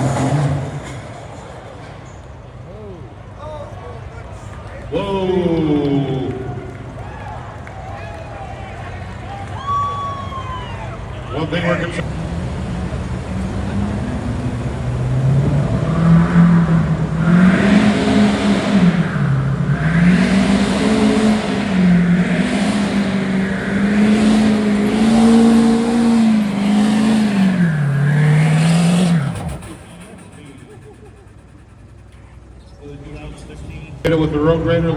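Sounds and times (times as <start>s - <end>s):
diesel truck engine under load: 0.0s - 34.9s.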